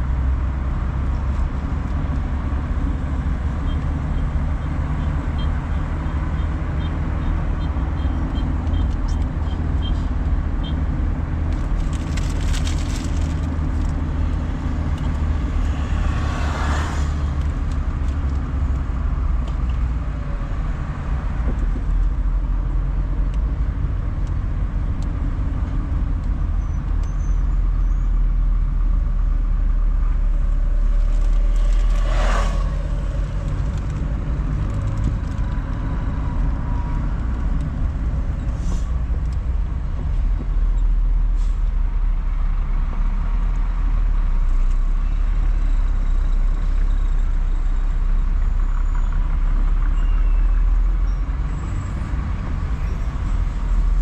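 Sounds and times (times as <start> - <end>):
engine and road noise: 0.0 - 54.0.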